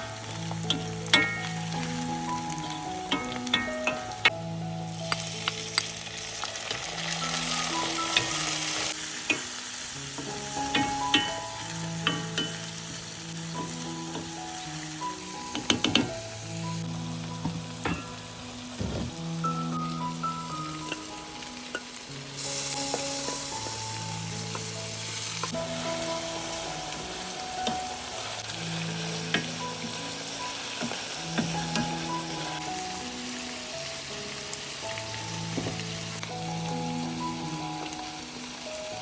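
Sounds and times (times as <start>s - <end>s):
food sizzling in a pan: 0.0s - 39.0s
soft background music: 0.0s - 39.0s.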